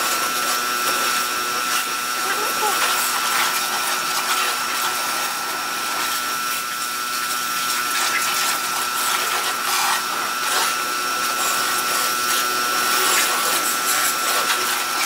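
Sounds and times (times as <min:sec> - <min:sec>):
pressure washer motor whine: 0:00.0 - 0:15.0.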